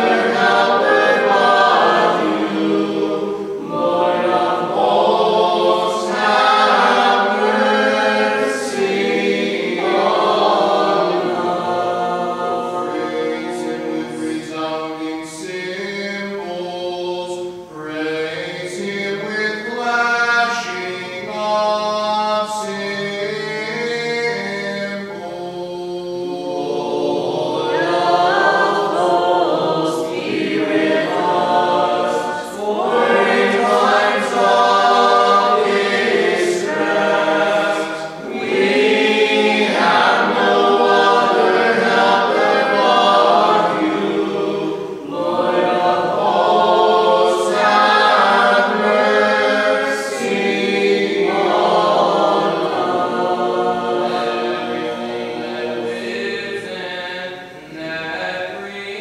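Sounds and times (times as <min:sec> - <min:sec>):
choir chanting a cappella: 0:00.0 - 0:59.0.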